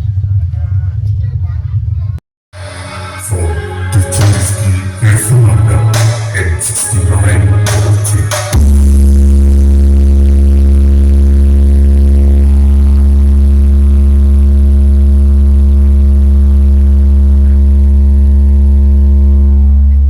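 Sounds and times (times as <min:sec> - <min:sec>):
loud low bass tone: 0:02.6 - 0:20.0.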